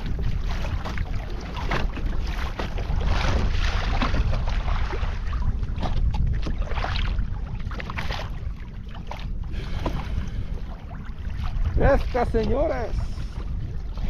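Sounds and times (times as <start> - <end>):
water slapping against kayak: 0.0 - 14.0
wind rumbling on microphone: 0.0 - 14.0.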